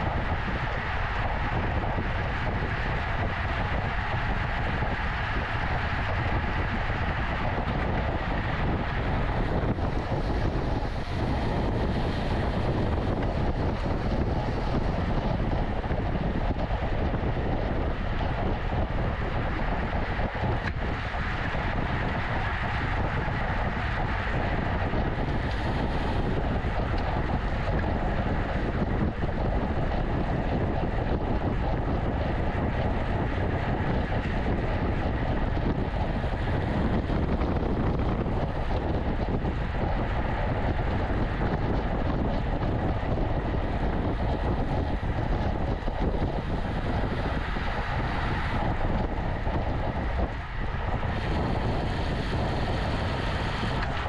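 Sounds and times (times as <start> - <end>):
road and tyre noise: 0.0 - 54.0
wind rushing over microphone: 0.0 - 54.0.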